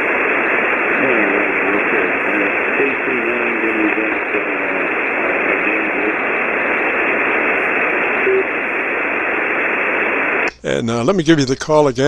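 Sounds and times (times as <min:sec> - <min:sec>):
weak voice over radio: 0:00.0 - 0:09.8
radio static hiss: 0:00.0 - 0:12.0.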